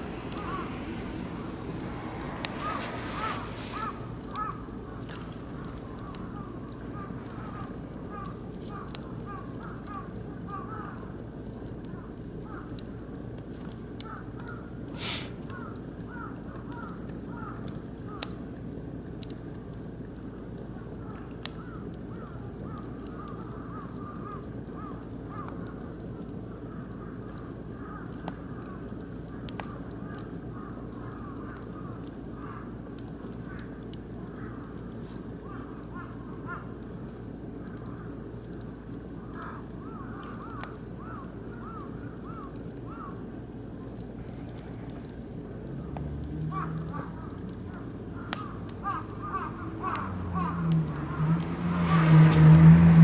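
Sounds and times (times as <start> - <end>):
sharp pops of burning wood: 0.0 - 53.0
wood fire crackling: 0.0 - 53.0.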